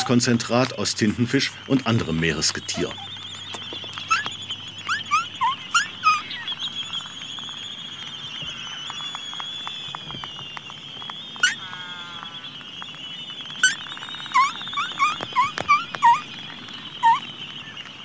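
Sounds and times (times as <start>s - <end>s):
steady high-pitched whine: 0.0s - 18.0s
bird chick squeaky peeps: 1.4s - 12.6s, 13.4s - 17.8s.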